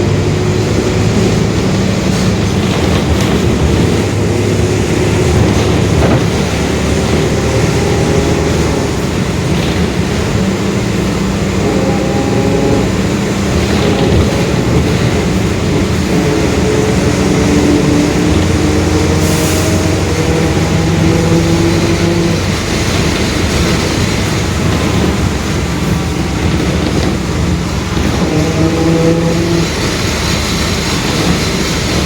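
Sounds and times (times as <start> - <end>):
droning differential whine: 0.0 - 31.4
bus diesel engine running: 0.0 - 32.0.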